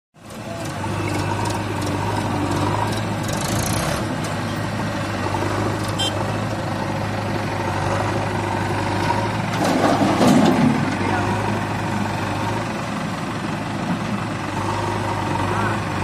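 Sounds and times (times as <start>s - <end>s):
diesel engines idling: 0.2s - 16.0s.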